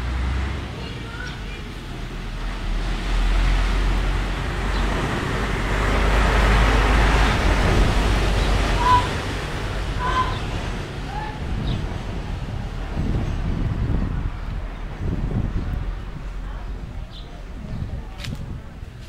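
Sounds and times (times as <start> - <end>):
low rumble: 1.7 - 19.0.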